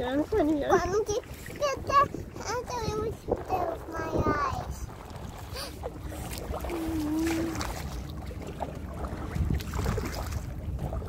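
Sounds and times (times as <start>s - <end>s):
paddle splashing in water: 0.0s - 11.0s
wind rumble on microphone: 0.0s - 11.0s
short low hum: 0.9s - 11.0s.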